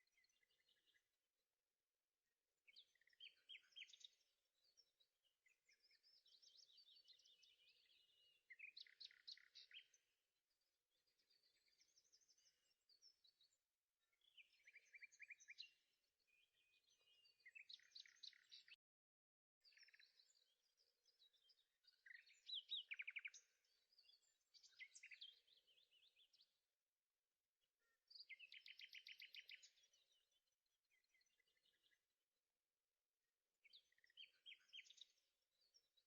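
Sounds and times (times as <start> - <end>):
faint birdsong: 0.0 - 36.0.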